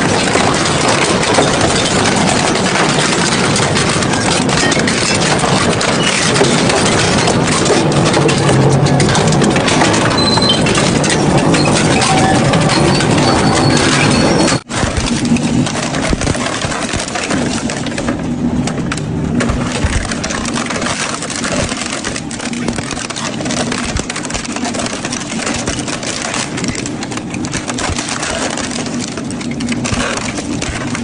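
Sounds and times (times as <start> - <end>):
cutters crunching metal: 0.0 - 31.0.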